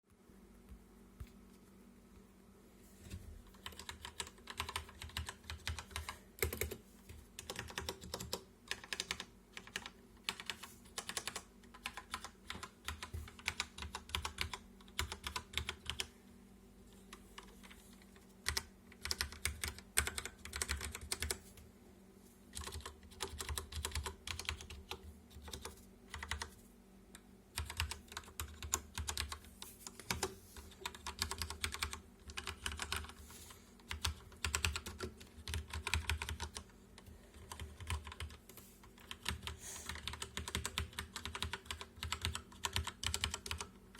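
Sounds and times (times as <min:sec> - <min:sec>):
faint steady hum: 0:00.1 - 0:43.9.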